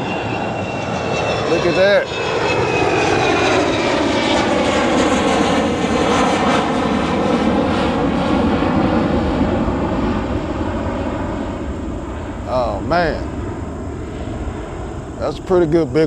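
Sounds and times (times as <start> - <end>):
airliner taking off overhead: 0.0 - 16.0.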